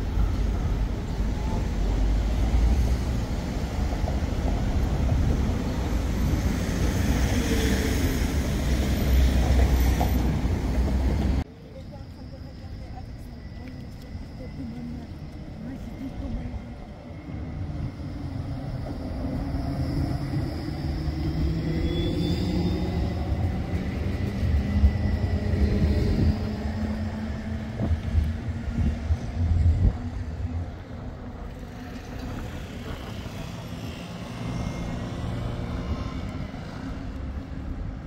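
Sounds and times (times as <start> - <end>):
tram running on rails: 0.0 - 38.0.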